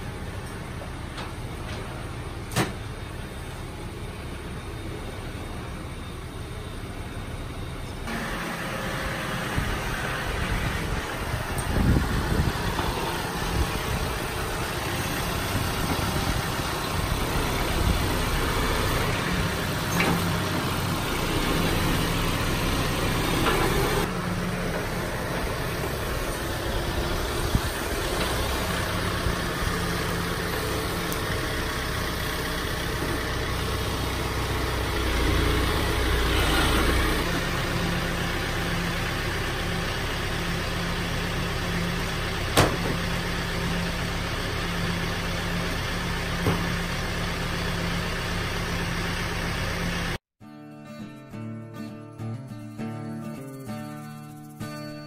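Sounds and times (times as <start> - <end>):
vehicle engine running: 0.0 - 50.2, 53.3 - 54.7.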